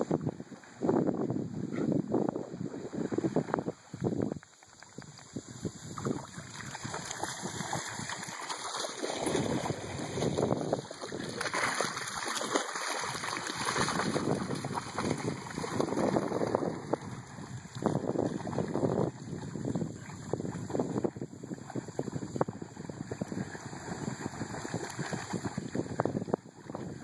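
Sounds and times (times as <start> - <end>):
wind noise on microphone: 0.0 - 27.0
dogs splashing through water: 4.5 - 27.0.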